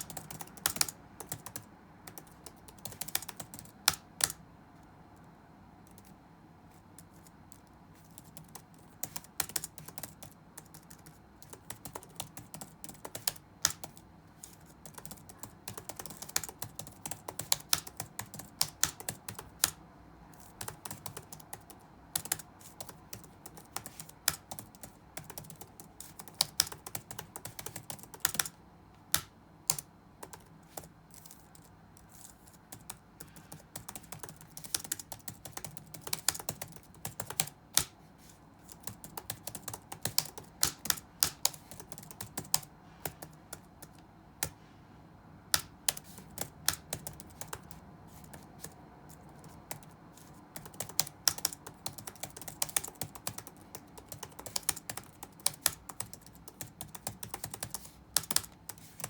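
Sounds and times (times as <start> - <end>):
typing on computer keyboard: 0.0 - 4.4, 5.8 - 6.2, 7.0 - 38.0, 38.6 - 44.6, 45.5 - 59.0.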